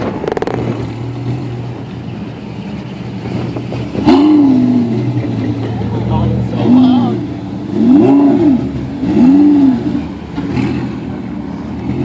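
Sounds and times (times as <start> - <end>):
car engine idling: 0.0 - 12.0
car engine revving: 0.0 - 12.0.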